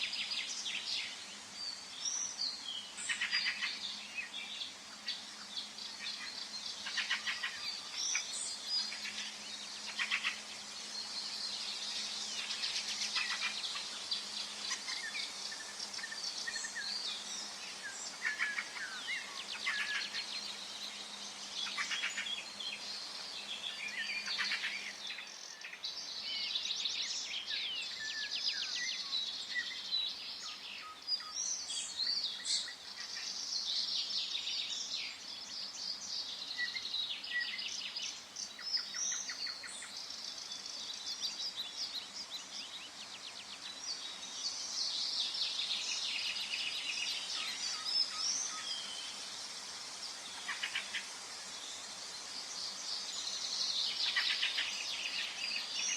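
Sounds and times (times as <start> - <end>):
faint steady hiss: 0.0 - 55.9
songbirds singing and chirping: 0.0 - 55.9.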